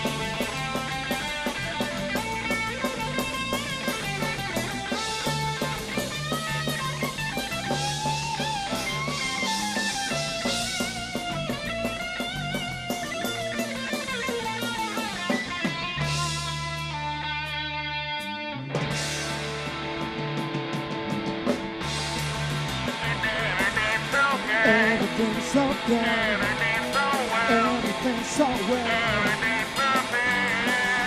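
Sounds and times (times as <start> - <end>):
drum beat: 0.0 - 16.5, 19.3 - 31.0
bass guitar: 0.0 - 31.0
electric guitar bending lines: 0.0 - 31.0.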